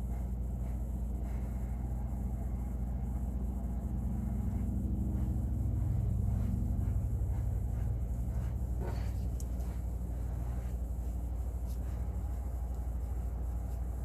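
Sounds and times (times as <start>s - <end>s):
low steady rumble with hum: 0.0s - 14.0s.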